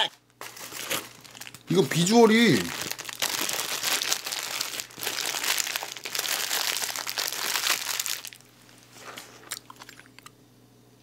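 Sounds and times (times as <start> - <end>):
paper wrapper crinkling: 0.4 - 10.1.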